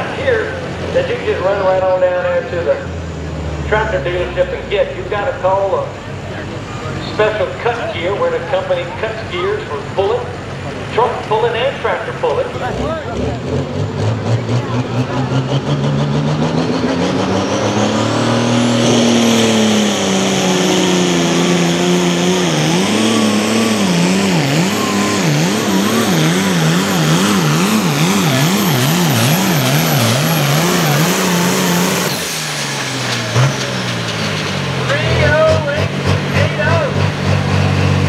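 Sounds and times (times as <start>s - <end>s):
diesel tractor engine under load: 0.0s - 38.0s.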